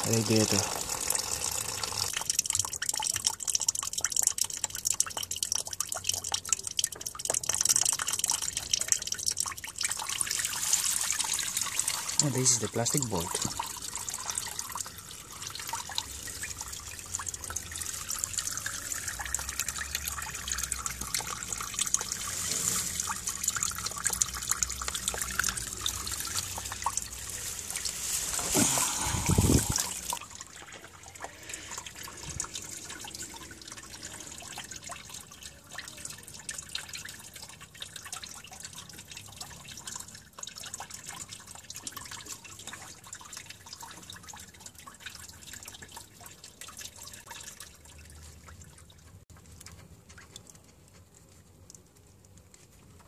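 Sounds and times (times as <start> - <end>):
coolant splashing from radiator drain: 0.0 - 50.9
liquid trickling and dripping: 0.0 - 53.0.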